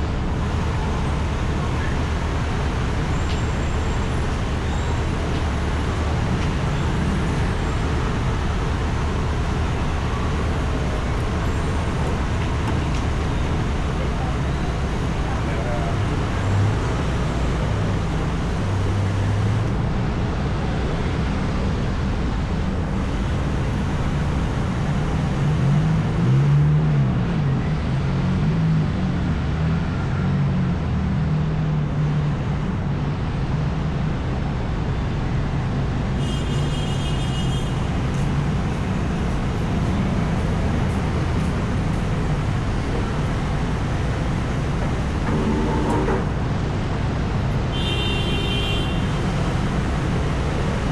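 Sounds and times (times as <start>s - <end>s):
vehicle engines passing: 0.0s - 36.3s, 37.5s - 50.9s
road noise: 0.0s - 50.9s.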